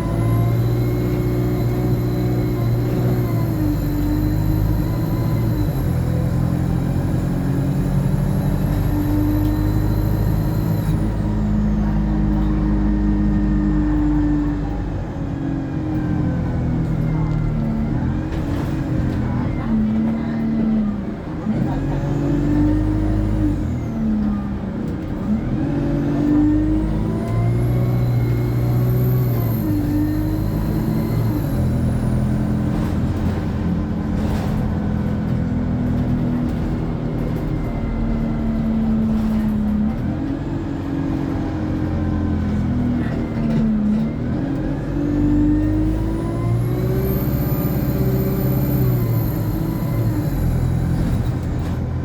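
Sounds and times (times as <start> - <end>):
diesel bus pulling away: 0.0 - 52.0.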